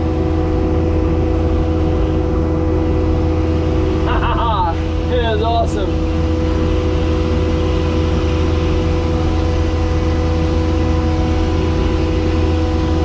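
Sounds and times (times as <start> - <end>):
diesel engine droning: 0.0 - 13.0
steady engine whine: 0.0 - 13.0.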